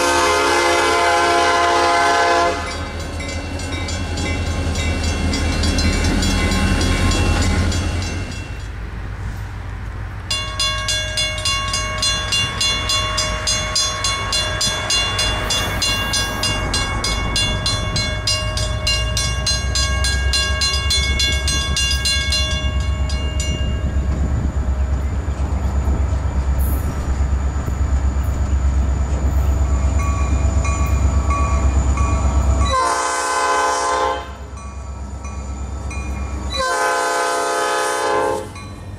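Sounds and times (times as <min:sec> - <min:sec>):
railroad crossing bell ringing: 0:00.0 - 0:09.0, 0:10.2 - 0:38.9
locomotives passing: 0:00.0 - 0:38.9.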